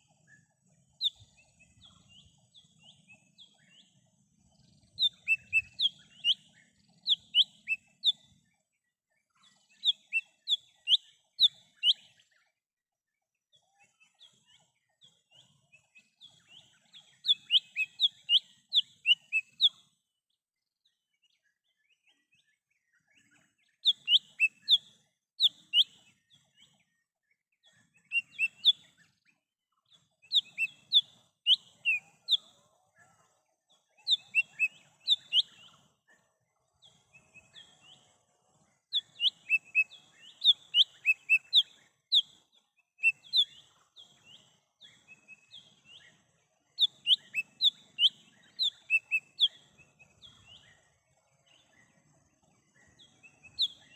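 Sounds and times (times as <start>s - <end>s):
bird chirping: 0.0s - 12.6s, 13.5s - 20.0s, 20.6s - 53.9s.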